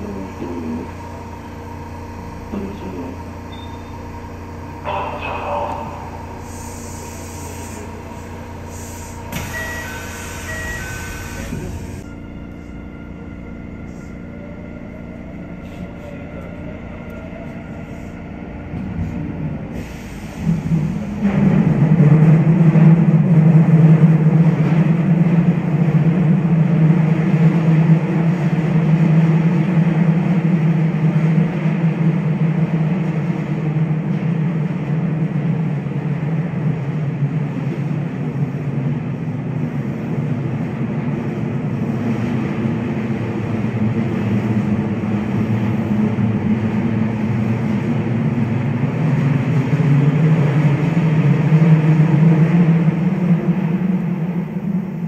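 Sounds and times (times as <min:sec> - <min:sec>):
train rumbling through tunnel: 0:00.0 - 0:55.0.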